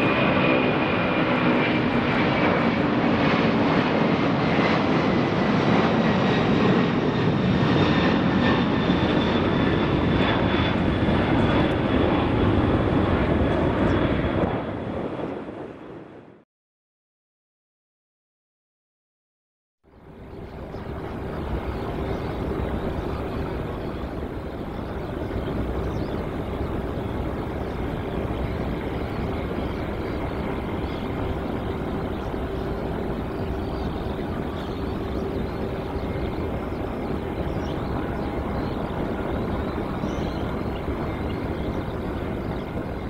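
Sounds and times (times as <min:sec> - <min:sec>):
jet engines rumbling and whining: 0:00.0 - 0:16.4, 0:19.9 - 0:43.0.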